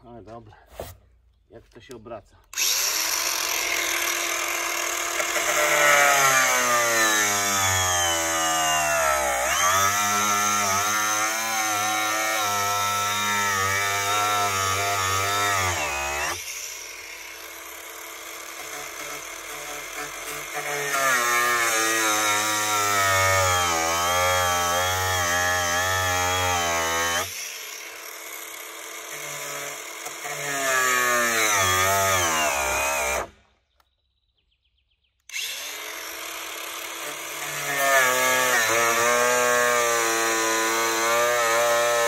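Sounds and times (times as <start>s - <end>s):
angle grinder cutting: 2.5s - 33.4s, 35.3s - 42.0s.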